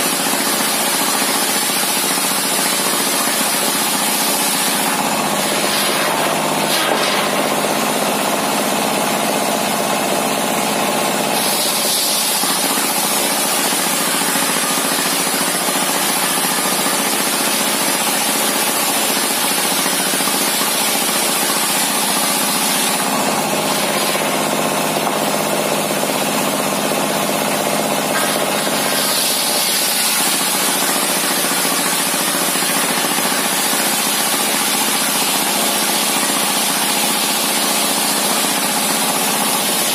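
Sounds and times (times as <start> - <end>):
circular saw cutting wood: 0.0 - 10.1, 10.7 - 39.9.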